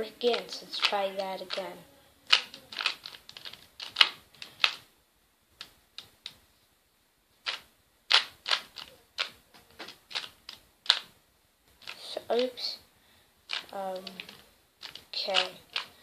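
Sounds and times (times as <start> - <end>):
puzzle cube clicking: 0.2 - 4.9, 5.6 - 6.4, 7.4 - 12.8, 13.5 - 16.0.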